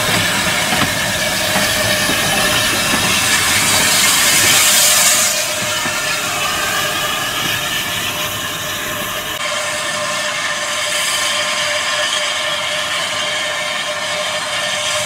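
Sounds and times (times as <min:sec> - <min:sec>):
train rushing on the line: 0:00.0 - 0:15.0.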